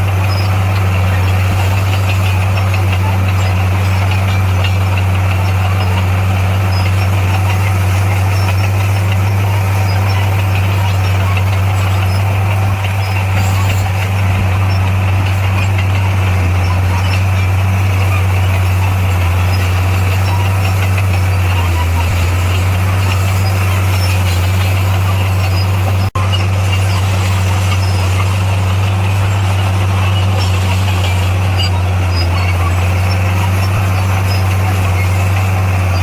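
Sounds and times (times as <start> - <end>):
diesel engine humming: 0.0 - 36.0.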